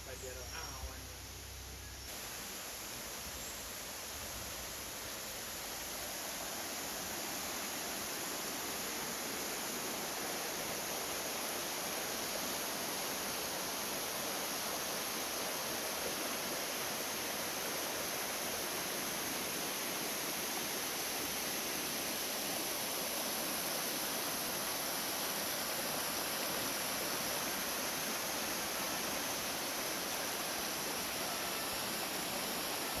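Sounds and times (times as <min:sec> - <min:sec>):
stream rushing over stones: 0:02.1 - 0:33.0.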